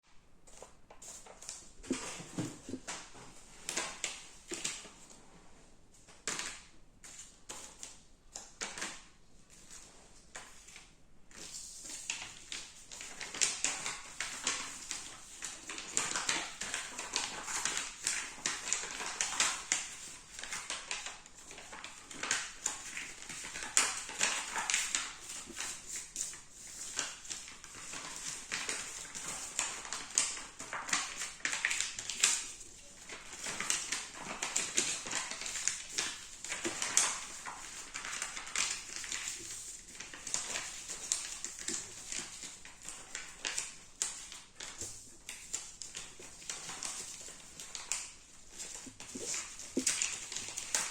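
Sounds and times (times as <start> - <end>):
paper rustling and creasing: 9.5 - 50.9.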